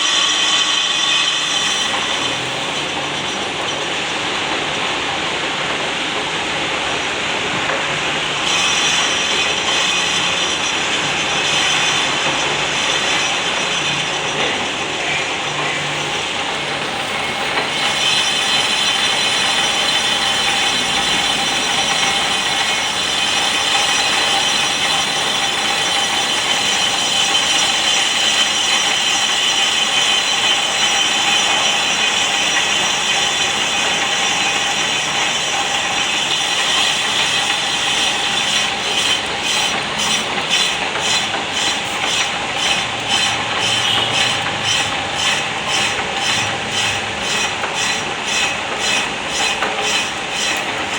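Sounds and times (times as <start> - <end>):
lathe cutting metal: 0.0 - 50.9.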